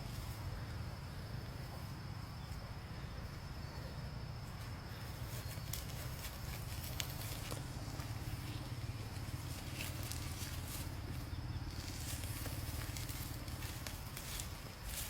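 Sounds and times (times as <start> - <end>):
low outdoor rumble: 0.0 - 15.0
insect trilling: 0.2 - 15.0.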